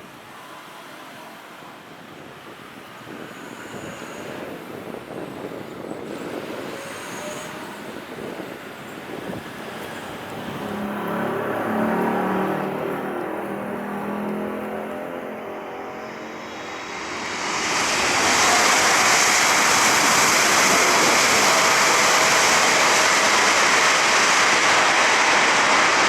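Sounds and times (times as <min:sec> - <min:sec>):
jet engines roaring: 0:02.1 - 0:26.0.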